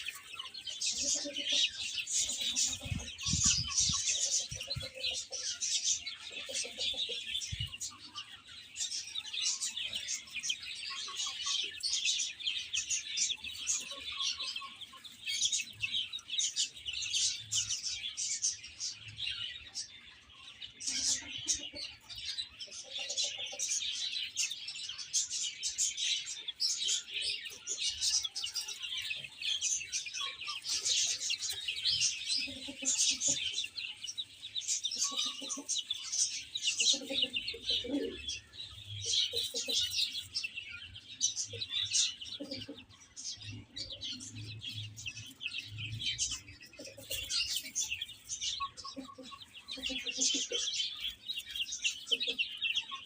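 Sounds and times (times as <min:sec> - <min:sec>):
baby chicks peeping: 0:00.0 - 0:53.0.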